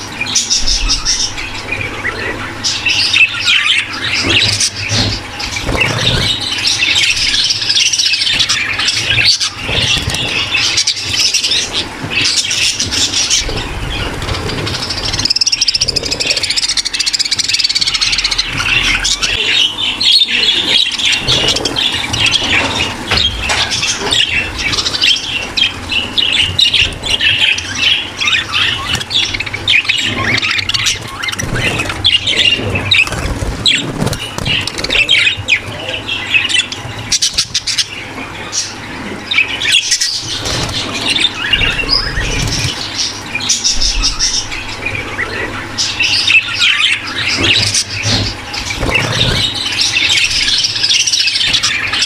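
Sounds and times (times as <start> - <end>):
budgerigars chattering: 0.0 - 52.0.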